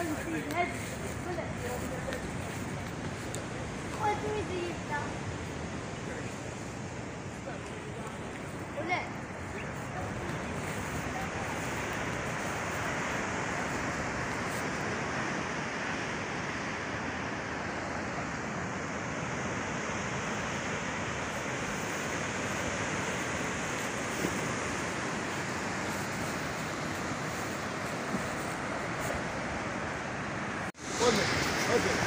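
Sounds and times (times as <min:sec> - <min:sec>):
sea surf breaking on shore: 0:00.0 - 0:32.0.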